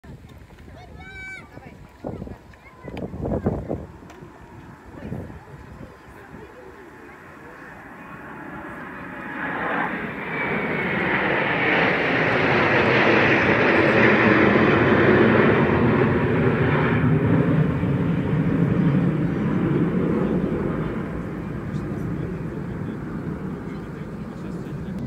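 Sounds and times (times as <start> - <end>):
fighter jets flying over: 0.1 - 25.0.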